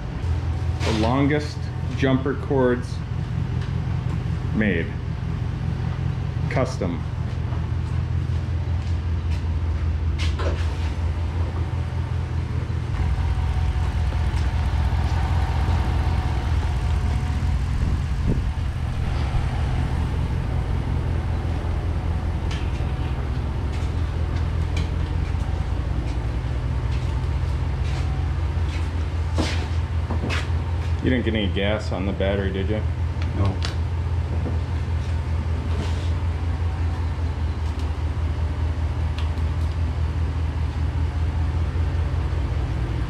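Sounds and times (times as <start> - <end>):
vehicle engine idling: 0.0 - 43.0.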